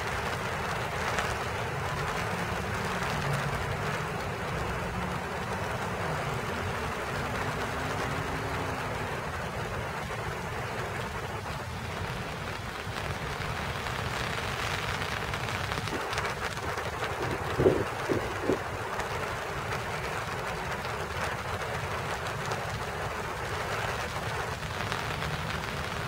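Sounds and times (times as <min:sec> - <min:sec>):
rain pattering on leaves: 0:00.0 - 0:26.0.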